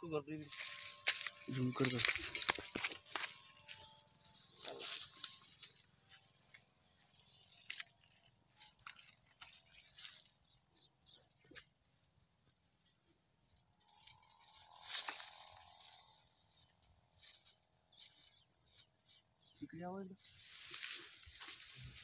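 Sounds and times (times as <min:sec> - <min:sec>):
dry stalks crackling and rustling: 0:00.4 - 0:11.8, 0:12.5 - 0:22.0.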